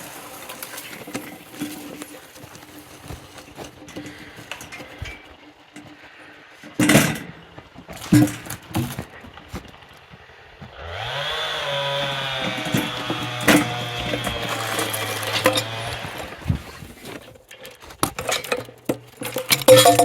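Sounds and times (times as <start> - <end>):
chainsaw engine starting and running: 0.0 - 17.3.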